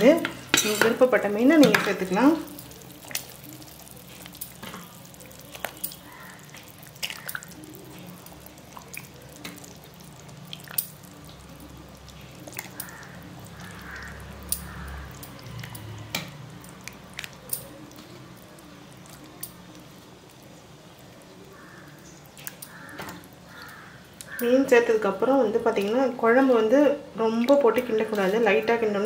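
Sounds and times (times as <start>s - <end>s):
small wet plops and drips: 1.6s - 24.5s, 27.2s - 28.4s.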